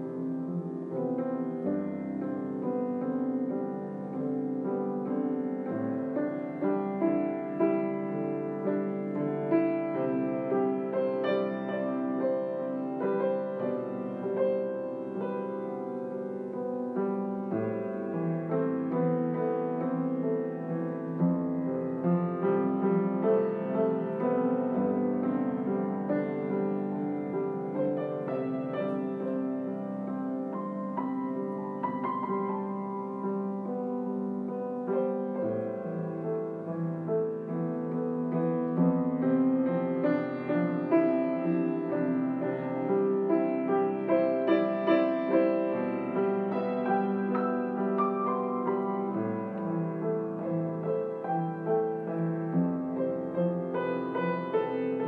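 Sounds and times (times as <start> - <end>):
solo piano playing: 0.0 - 55.0.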